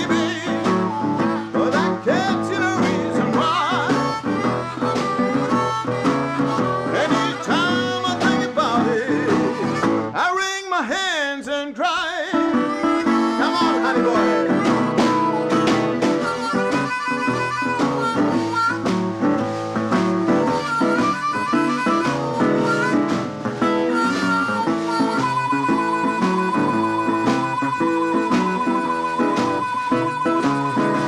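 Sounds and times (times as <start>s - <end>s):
harmonica solo: 0.0s - 10.3s, 12.1s - 31.0s
acoustic guitar accompaniment: 0.0s - 31.0s.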